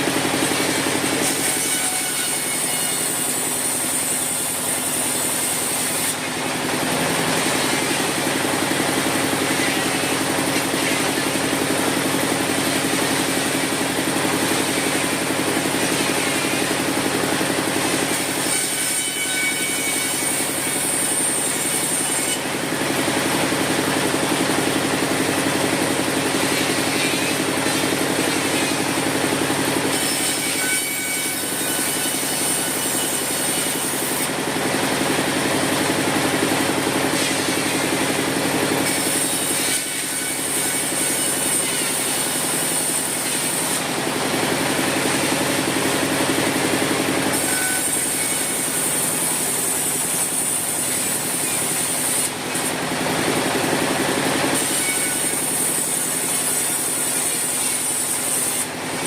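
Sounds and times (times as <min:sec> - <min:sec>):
sawmill saw humming: 0:00.0 - 0:59.0.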